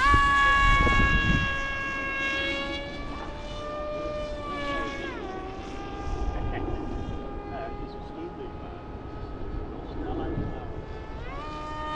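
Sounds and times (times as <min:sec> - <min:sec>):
model plane electric motor whining: 0:00.0 - 0:11.9.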